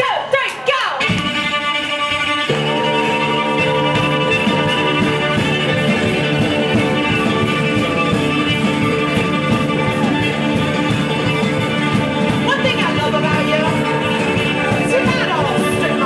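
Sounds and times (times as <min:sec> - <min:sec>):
live rock band playing: 0:01.0 - 0:16.0.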